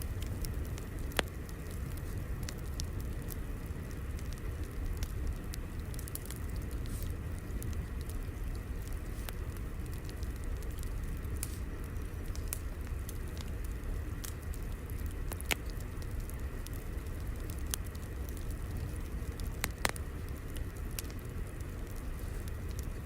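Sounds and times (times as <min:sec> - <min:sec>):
crackling fire with pops: 0:00.0 - 0:23.0.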